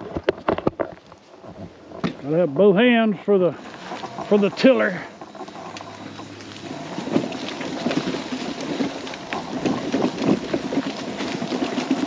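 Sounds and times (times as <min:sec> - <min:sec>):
scooter rolling over rough ground: 0:00.0 - 0:12.0.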